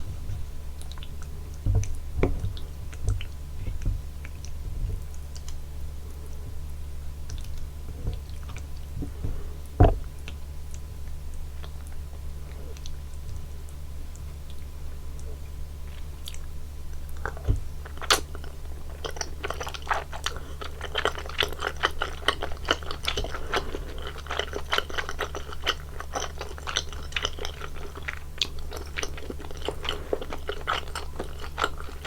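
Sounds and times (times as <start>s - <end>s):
close chewing with wet mouth sounds: 0.0s - 32.0s
steady low hum: 0.0s - 32.0s.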